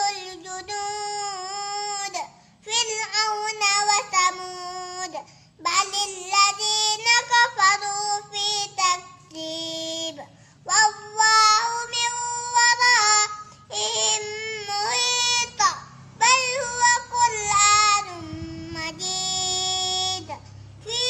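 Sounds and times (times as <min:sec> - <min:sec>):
boy chanting melodically: 0:00.0 - 0:21.0.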